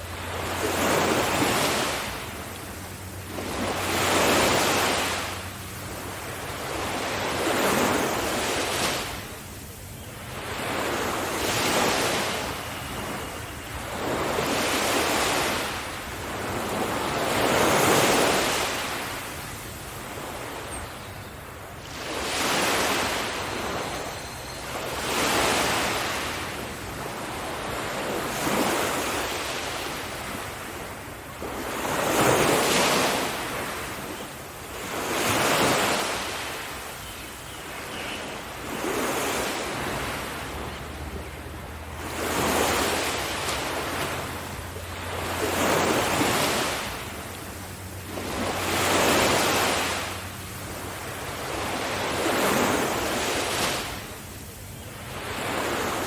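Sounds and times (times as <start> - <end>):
sea waves breaking on a beach: 0.0 - 56.0.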